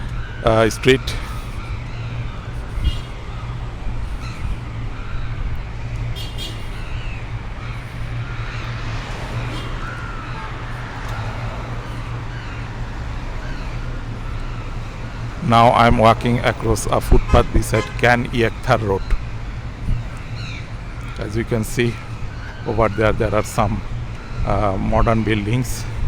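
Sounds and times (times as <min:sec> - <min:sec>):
passing traffic rumble: 0:00.0 - 0:26.0.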